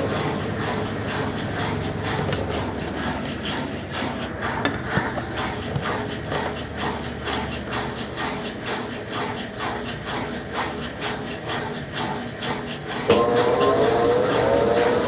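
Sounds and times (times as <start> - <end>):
washing machine water sloshing: 0.0 - 15.0.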